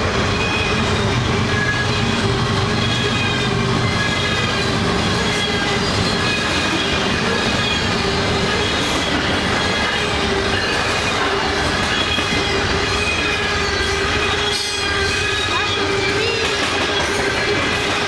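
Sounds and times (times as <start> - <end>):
freight train cars rumbling past: 0.0 - 18.0
wheels squealing on rails: 0.0 - 18.0.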